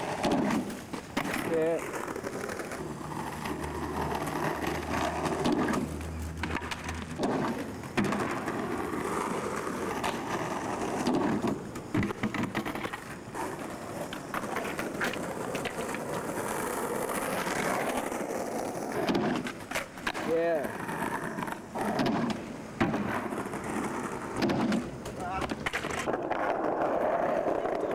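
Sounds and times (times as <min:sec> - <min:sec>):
skateboard clattering on ramp: 0:00.0 - 0:27.9
skateboard wheels rolling on paving: 0:00.0 - 0:27.9
skateboards clacking: 0:00.0 - 0:27.9.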